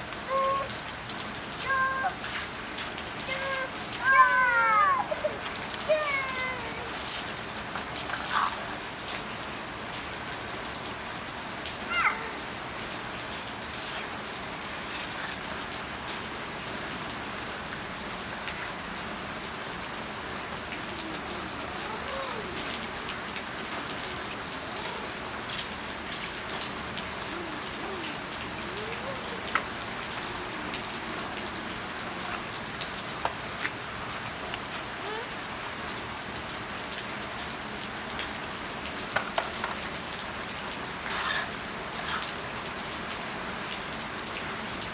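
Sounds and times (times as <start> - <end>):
rain pattering: 0.0 - 44.9.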